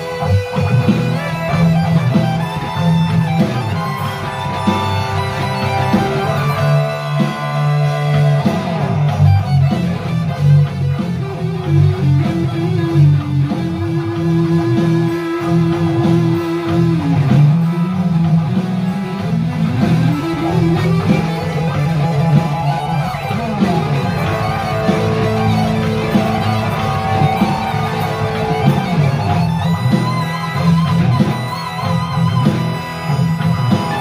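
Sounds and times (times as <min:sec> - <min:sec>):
lead electric guitar bending notes: 0:00.0 - 0:34.0
low chugging guitar chords: 0:00.0 - 0:34.0.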